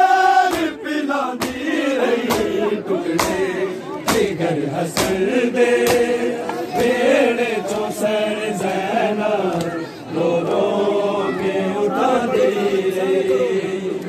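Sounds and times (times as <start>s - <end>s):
group chanting in chorus: 0.0s - 14.0s.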